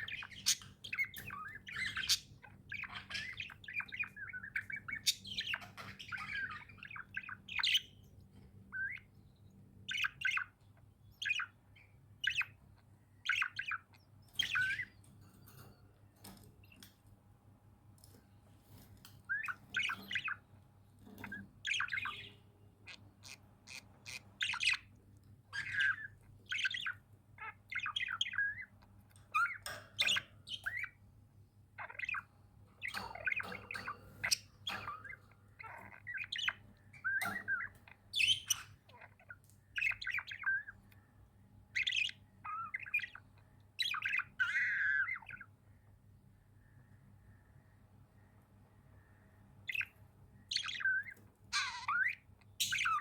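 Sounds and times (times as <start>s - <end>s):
budgerigars chirping and squawking: 0.0s - 17.1s, 18.0s - 31.1s, 31.7s - 46.0s, 46.6s - 53.0s.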